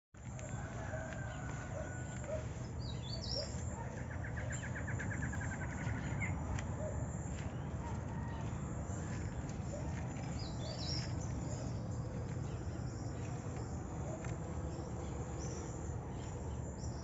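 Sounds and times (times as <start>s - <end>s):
steady low rumble: 1.7s - 17.0s.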